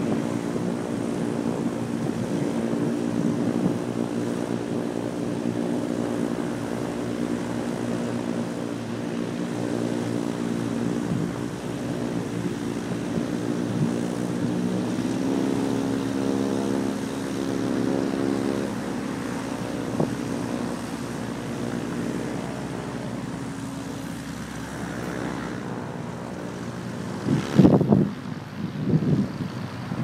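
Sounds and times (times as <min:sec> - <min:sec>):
light aircraft engine and propeller: 0:00.0 - 0:30.0.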